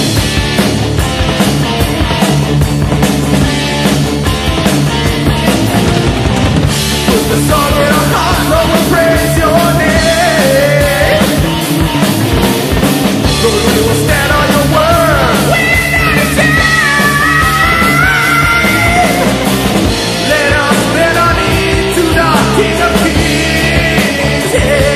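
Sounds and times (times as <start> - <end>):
heavy metal band playing: 0.0 - 24.9
sliding melodic guitar line: 0.0 - 24.9.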